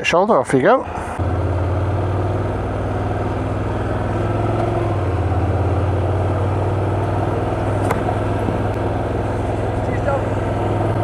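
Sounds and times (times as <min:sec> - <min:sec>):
wind and road noise: 0:00.0 - 0:11.0
motorcycle engine running: 0:01.2 - 0:11.0.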